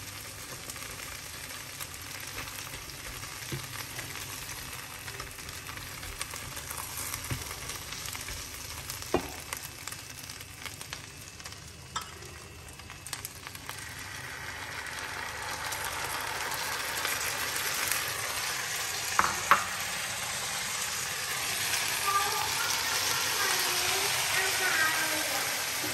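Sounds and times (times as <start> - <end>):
prawns sizzling in a frying pan: 0.0 - 25.9.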